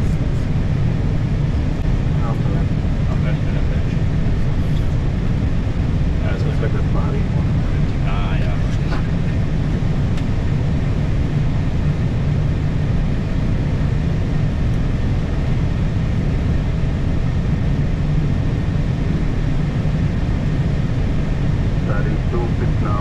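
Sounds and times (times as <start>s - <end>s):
jet engines idling in cockpit: 0.0s - 23.0s.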